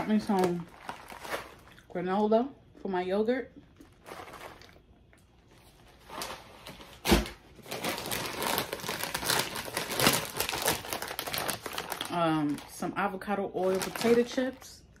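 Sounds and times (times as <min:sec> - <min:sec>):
crinkly packaging crumpled: 0:00.0 - 0:02.0, 0:03.6 - 0:14.8.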